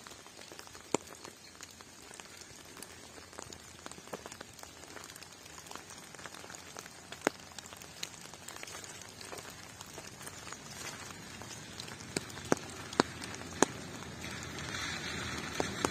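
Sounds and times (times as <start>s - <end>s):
faint rain hiss: 0.0s - 15.9s
raindrops ticking on a surface: 0.0s - 15.9s.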